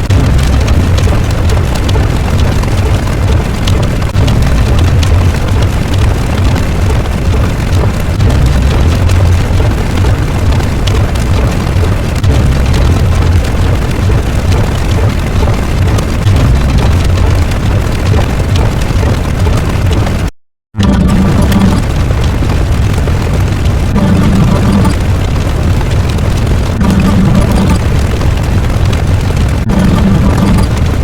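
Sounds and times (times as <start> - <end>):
explosion rumbling roar with crackling: 0.0 - 31.0.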